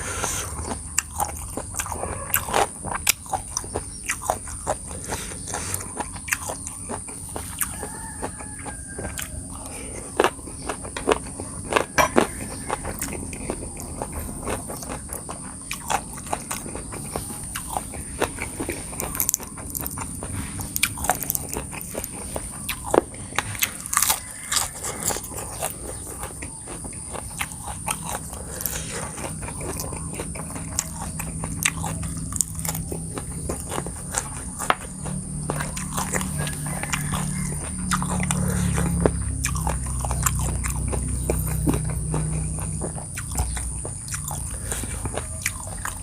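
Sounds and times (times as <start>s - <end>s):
chewing crunchy food: 0.0s - 46.0s.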